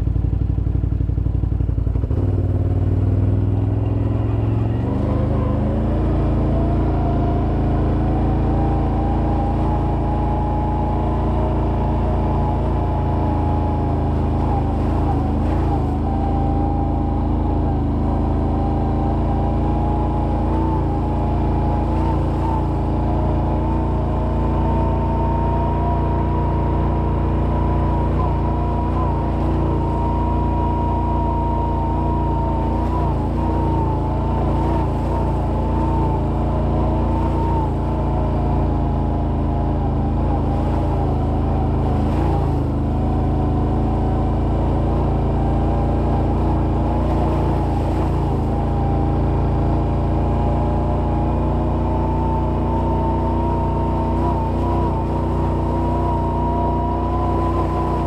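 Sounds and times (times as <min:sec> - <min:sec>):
atv engine cruising: 0:00.0 - 0:58.0.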